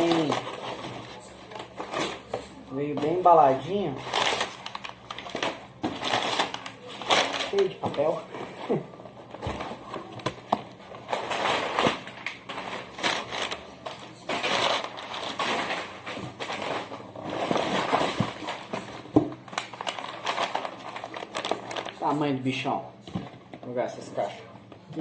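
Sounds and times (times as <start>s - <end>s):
packing paper crumpling: 0.0s - 8.9s, 9.6s - 22.2s.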